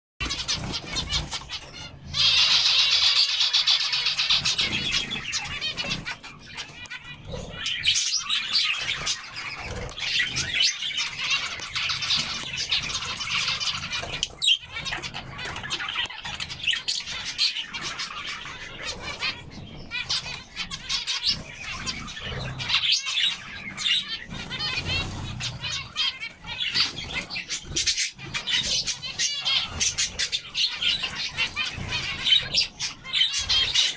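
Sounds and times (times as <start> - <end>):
flock of birds chirping: 0.2 - 33.9.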